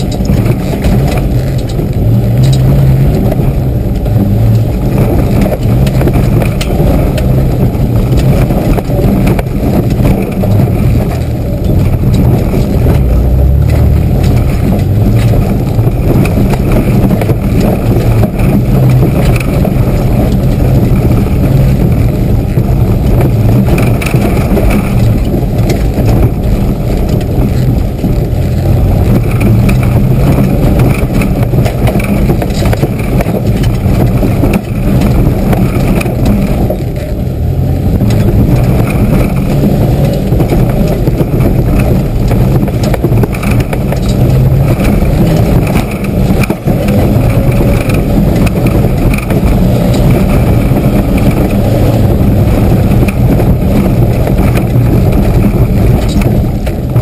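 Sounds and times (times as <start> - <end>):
body and suspension rattles: 0.0 - 57.0
engine running hard: 0.0 - 57.0.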